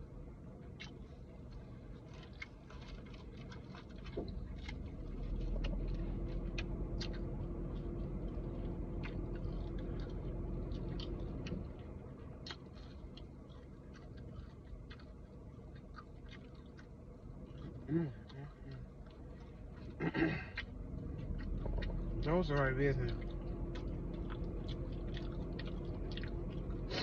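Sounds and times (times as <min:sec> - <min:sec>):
low rumble with hum: 0:00.0 - 0:27.0
person chewing food: 0:00.6 - 0:27.0.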